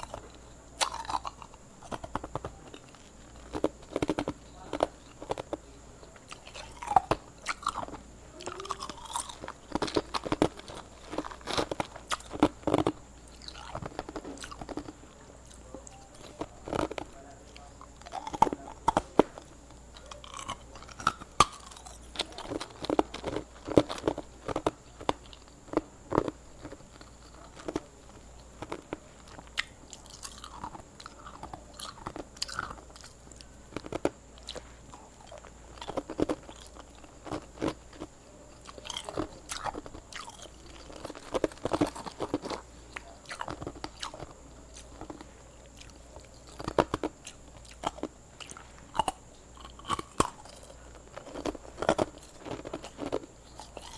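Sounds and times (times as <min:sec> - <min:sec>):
ice crunched between teeth: 0:00.0 - 0:53.9.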